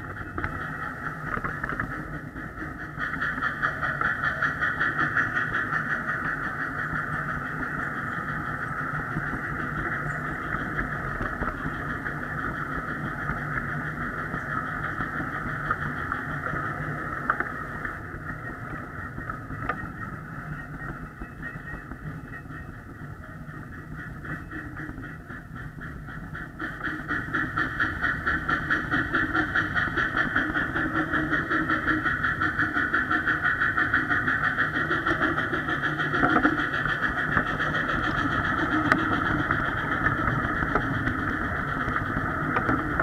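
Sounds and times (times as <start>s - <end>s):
miniature train running on track: 0.0s - 43.0s.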